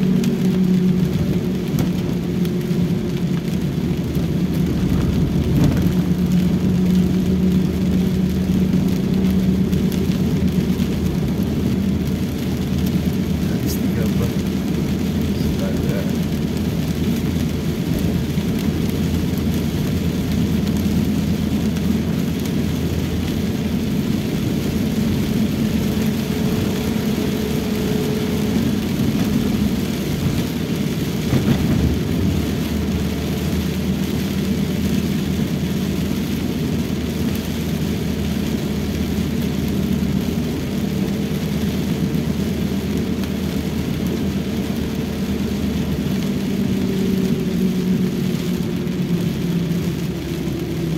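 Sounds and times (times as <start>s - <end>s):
car engine and tyre hum: 0.0s - 50.9s
hiss of rain and spray: 0.0s - 50.9s.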